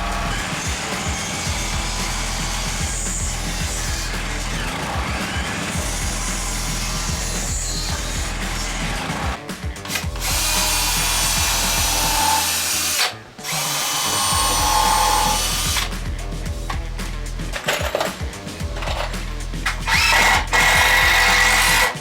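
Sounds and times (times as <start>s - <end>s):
power drill running: 0.0s - 16.0s, 18.8s - 22.0s
background music: 0.0s - 22.0s.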